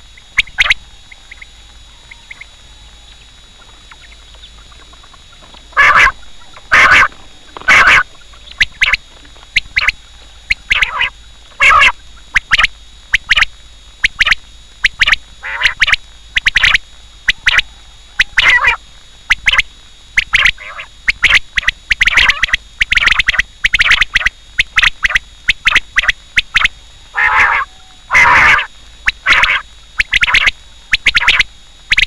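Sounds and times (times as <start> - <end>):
quail calling: 0.0 - 13.5, 14.1 - 32.0.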